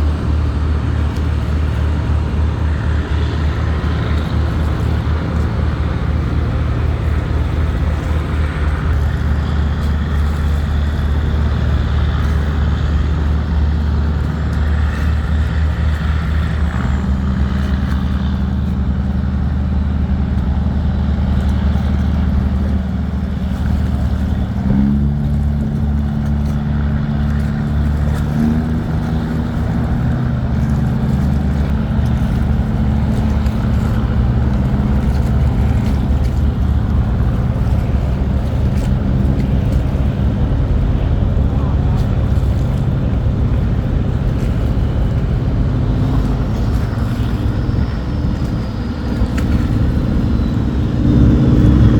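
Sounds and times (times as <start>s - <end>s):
heavy diesel boat engine: 0.0s - 51.9s.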